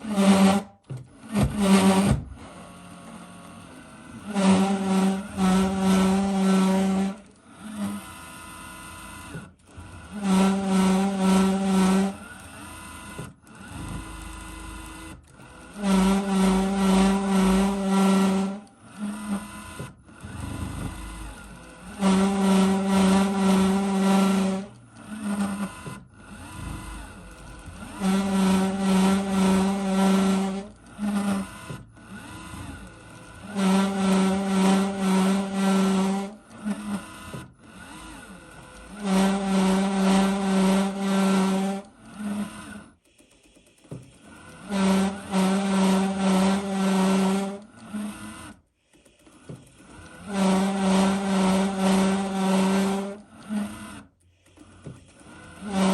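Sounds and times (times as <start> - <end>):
robot vacuum motors whining: 0.0 - 55.9.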